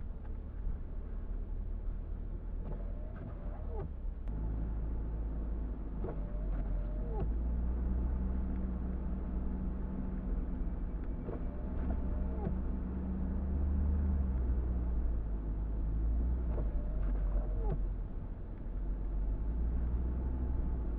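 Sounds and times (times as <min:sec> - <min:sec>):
road and engine rumble: 0:00.0 - 0:20.9.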